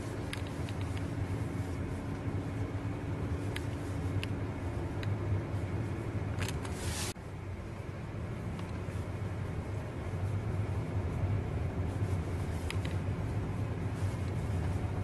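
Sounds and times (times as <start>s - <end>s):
engine and tyre hum: 0.0s - 15.0s.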